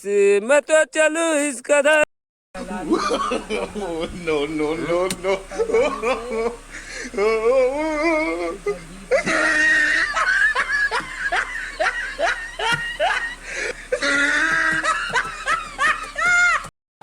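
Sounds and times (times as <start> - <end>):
person laughing: 2.6 - 16.7.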